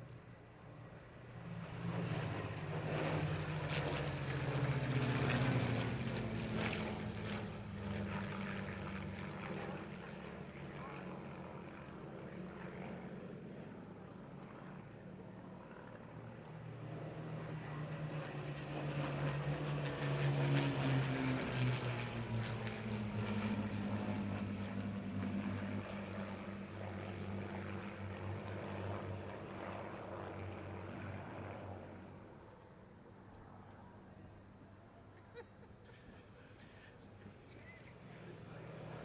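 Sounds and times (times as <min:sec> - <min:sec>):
propeller aircraft flying past: 0:00.0 - 0:39.0.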